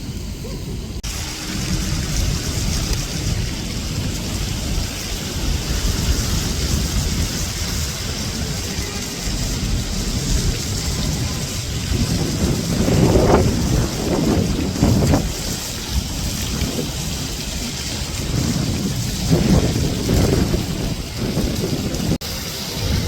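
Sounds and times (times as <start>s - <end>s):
low rumble: 0.0s - 23.0s
rain hissing: 0.0s - 23.0s.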